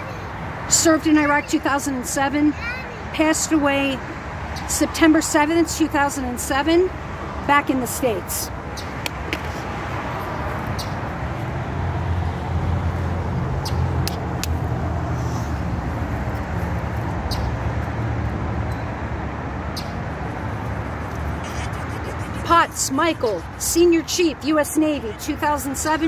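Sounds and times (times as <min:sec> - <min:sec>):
motor vehicle rumbling: 0:00.0 - 0:26.0.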